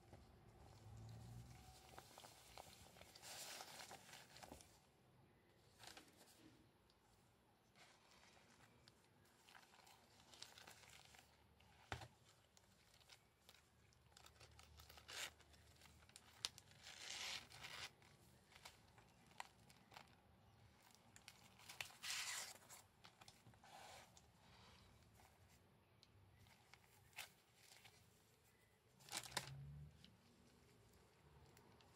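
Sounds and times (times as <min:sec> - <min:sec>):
soft rustling and scraping: 0:00.0 - 0:31.9.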